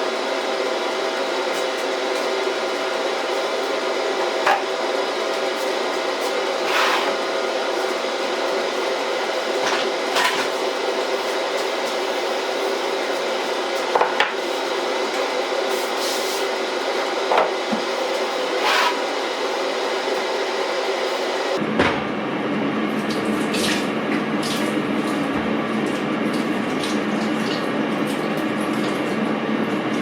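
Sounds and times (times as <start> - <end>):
steady kitchen hum: 0.0 - 30.0.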